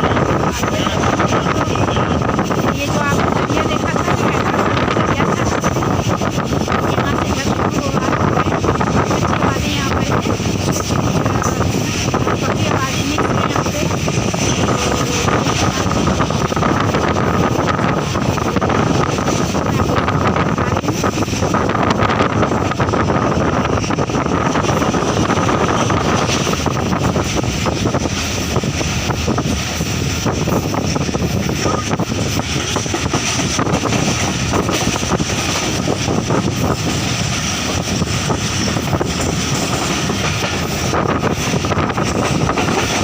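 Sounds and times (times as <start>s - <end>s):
moving vehicle rumble: 0.0s - 43.0s
wind noise on microphone: 0.0s - 43.0s.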